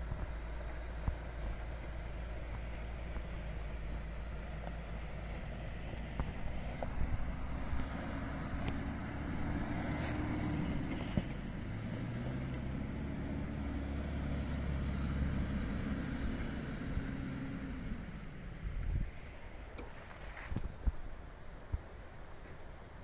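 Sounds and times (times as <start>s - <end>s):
diesel engine drone: 0.0s - 23.0s.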